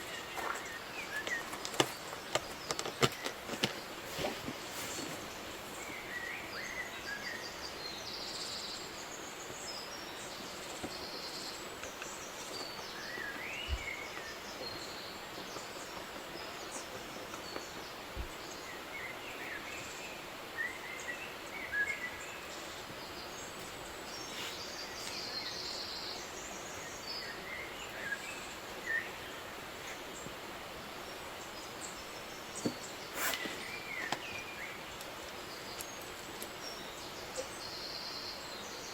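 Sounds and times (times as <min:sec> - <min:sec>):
small birds chirping: 0:00.0 - 0:38.9
steady background hiss: 0:00.0 - 0:38.9.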